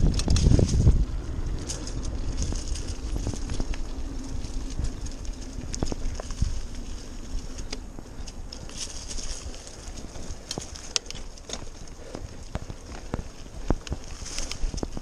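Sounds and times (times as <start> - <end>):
bike rattling: 0.0 - 15.0
bike tyres on dirt: 0.0 - 15.0.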